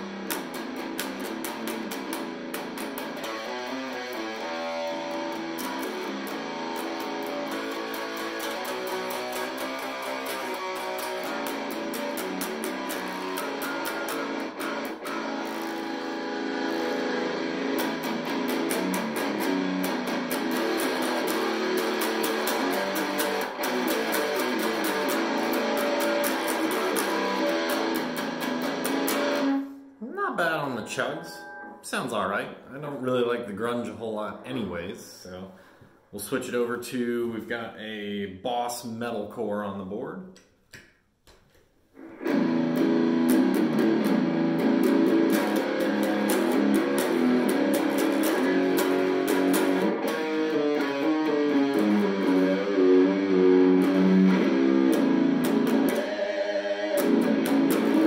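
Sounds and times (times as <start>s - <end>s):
distorted electric guitar riffs: 0.0s - 34.8s, 42.0s - 58.0s.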